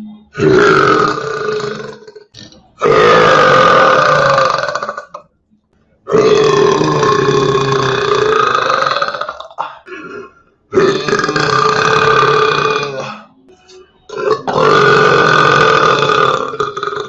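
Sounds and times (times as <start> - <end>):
person belching loudly: 0.3 - 5.2, 6.1 - 13.4, 14.1 - 17.0.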